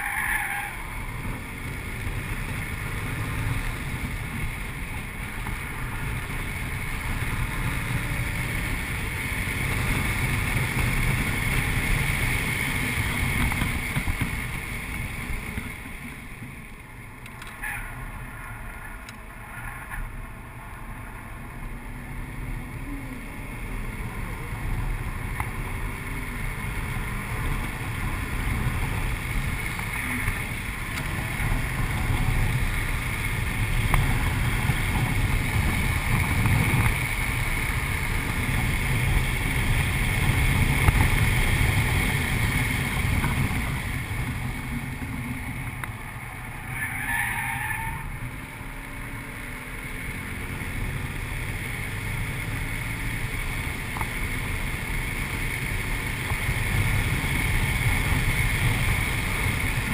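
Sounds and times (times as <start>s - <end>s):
car engine driving hard: 0.0s - 59.9s
wind and road noise: 0.0s - 59.9s.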